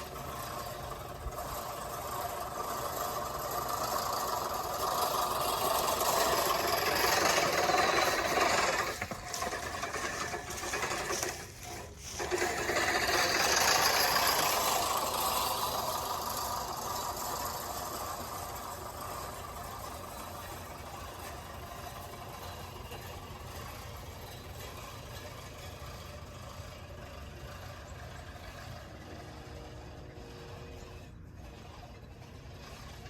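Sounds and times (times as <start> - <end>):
reel mower blades whirring: 0.0 - 33.0.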